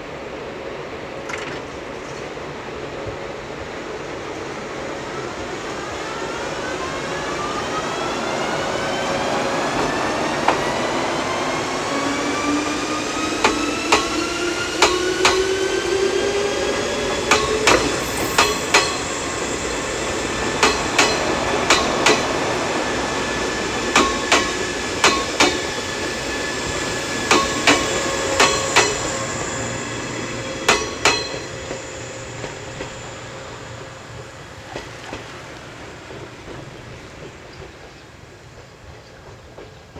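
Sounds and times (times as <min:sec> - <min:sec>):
train motor whine: 0:05.1 - 0:37.3.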